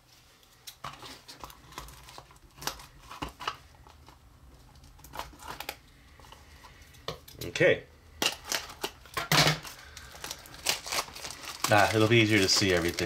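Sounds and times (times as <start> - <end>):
plastic wrap crinkling and tearing: 0.4 - 6.9, 8.1 - 13.0.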